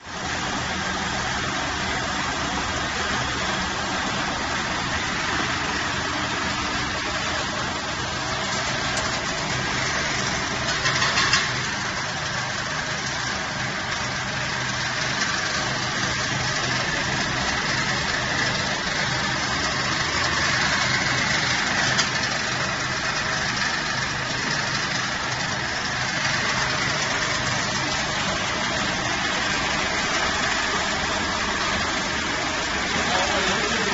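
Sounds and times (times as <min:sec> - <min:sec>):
pellet mill machine running: 0:00.0 - 0:33.9.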